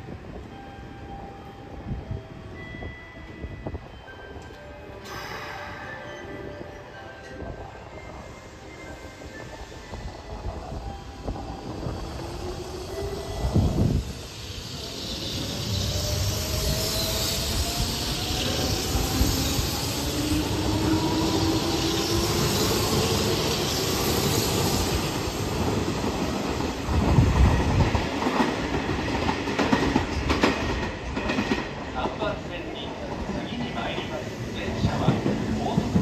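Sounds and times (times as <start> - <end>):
train cars running noise: 0.0 - 36.0.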